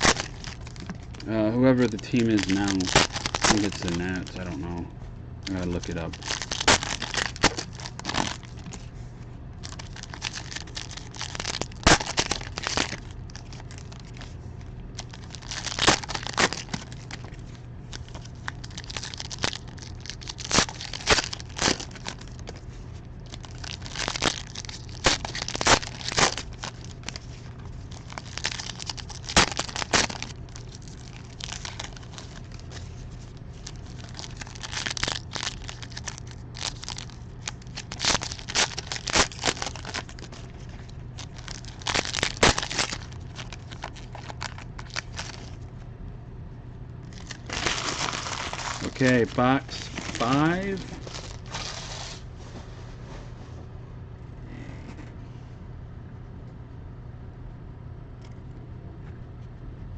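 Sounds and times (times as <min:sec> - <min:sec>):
wrappers tearing and crinkling: 0:00.0 - 0:04.6, 0:05.4 - 0:08.8, 0:09.6 - 0:45.6, 0:47.1 - 0:52.2
steady low hum: 0:00.0 - 0:59.9.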